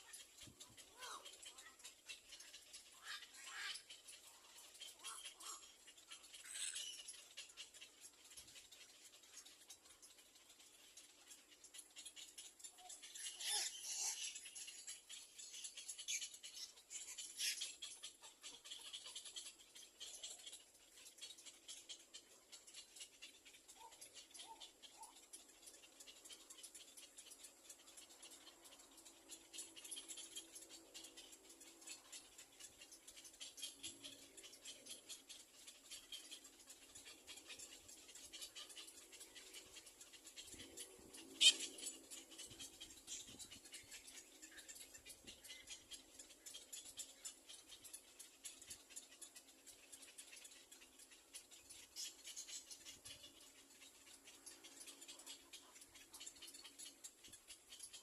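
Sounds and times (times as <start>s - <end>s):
nestlings chattering: 0.0s - 58.0s.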